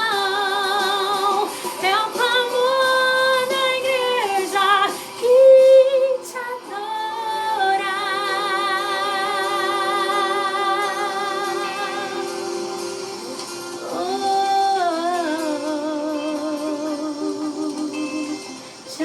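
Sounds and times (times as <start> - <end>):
woman singing gospel: 0.0 - 19.0.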